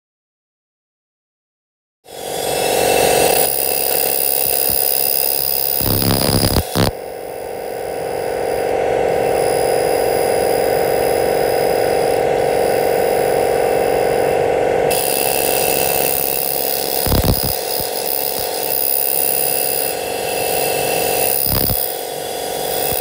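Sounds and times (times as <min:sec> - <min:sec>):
laser cleaner buzzing hiss: 0:02.1 - 0:23.0.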